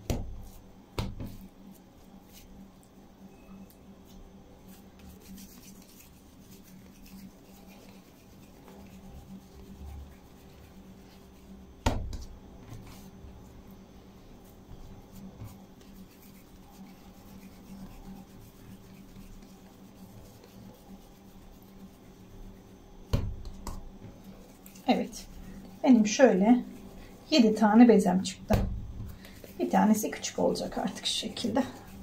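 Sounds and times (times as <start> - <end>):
faint steady hum: 0.0 - 32.0
hands rubbing and patting dough: 0.0 - 32.0.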